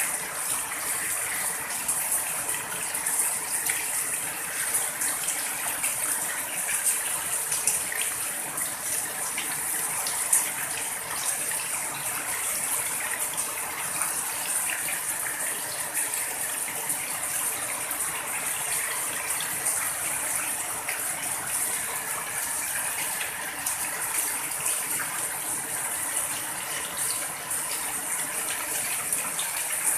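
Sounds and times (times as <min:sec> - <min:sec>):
runoff pouring and splashing: 0:00.0 - 0:29.9.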